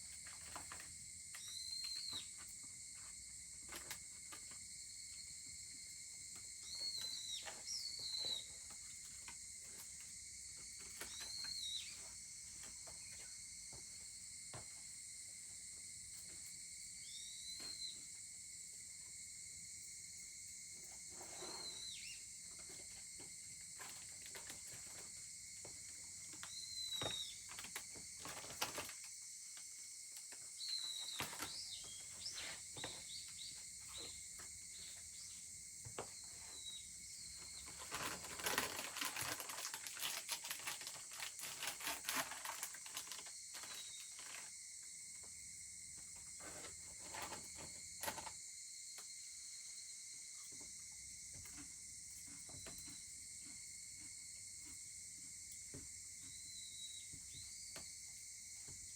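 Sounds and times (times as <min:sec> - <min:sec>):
insect chorus: 0:00.0 - 0:58.9.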